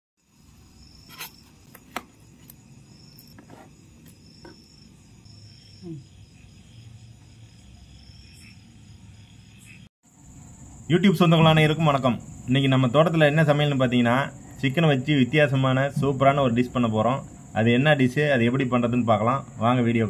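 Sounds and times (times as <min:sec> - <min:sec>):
crickets chirping: 0:00.2 - 0:20.0.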